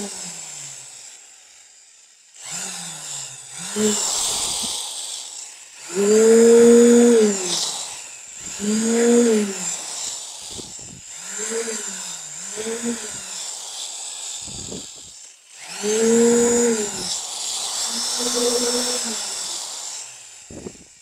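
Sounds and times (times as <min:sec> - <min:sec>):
small engine running in surges: 0:00.0 - 0:21.0
hiss: 0:03.7 - 0:21.0.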